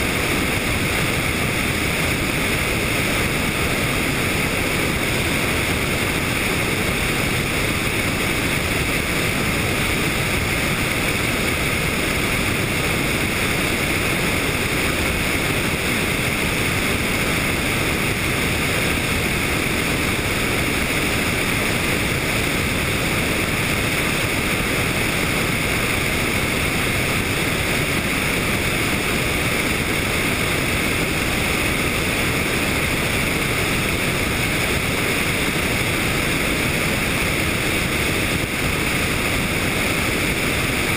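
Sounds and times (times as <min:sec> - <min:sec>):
helicopter in flight: 0:00.0 - 0:40.9
wind over microphone: 0:00.0 - 0:40.9.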